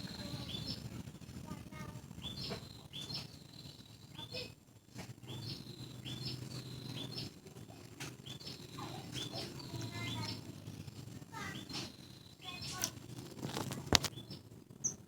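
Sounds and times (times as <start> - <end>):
low steady rumble: 0.0 - 15.0
small bird chirping: 0.0 - 15.0.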